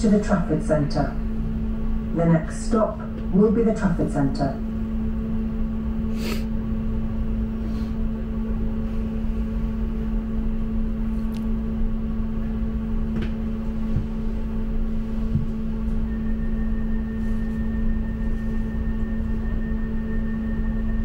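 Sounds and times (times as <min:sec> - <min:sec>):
tram electrical hum: 0:00.0 - 0:21.0.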